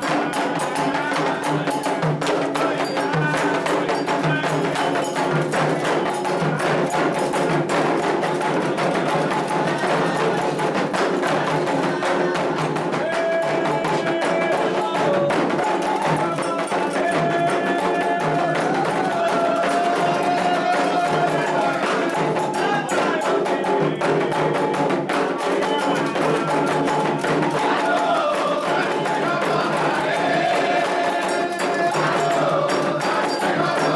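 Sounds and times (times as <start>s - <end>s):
hand drums playing: 0.0s - 33.9s
sung chant: 0.0s - 33.9s.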